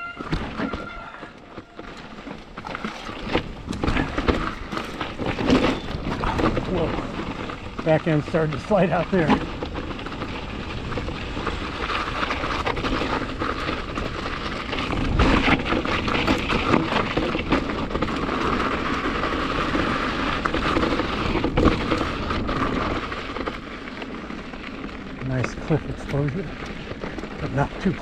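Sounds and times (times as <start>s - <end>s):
bike knocks and rattles: 0.0s - 28.0s
bike tyres crunching over rock: 0.0s - 28.0s
wind noise: 0.0s - 28.0s.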